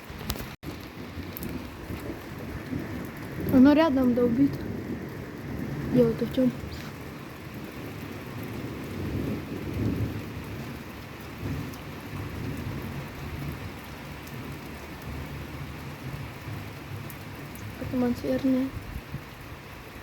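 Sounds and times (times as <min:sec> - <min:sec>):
steady rain falling: 0:00.0 - 0:20.0
thunder rumbling close by: 0:00.0 - 0:20.0.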